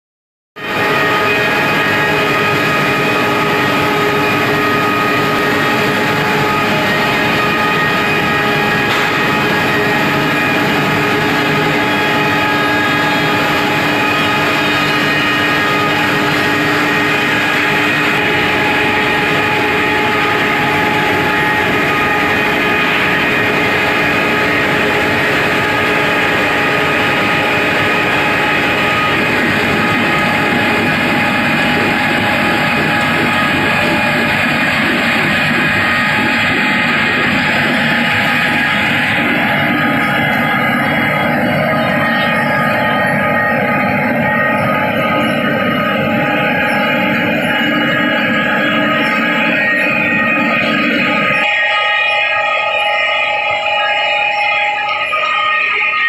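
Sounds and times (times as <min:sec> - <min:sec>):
loud machinery din: 0:00.6 - 0:56.0
machine whining tones: 0:00.6 - 0:56.0.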